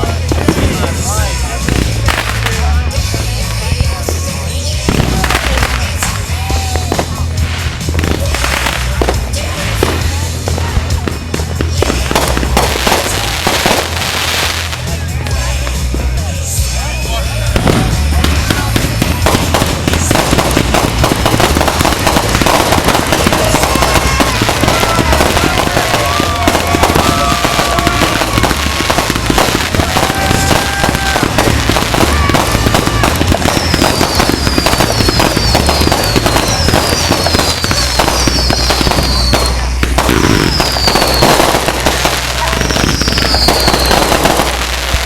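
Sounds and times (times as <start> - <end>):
fireworks crackling and thudding: 0.0 - 45.0.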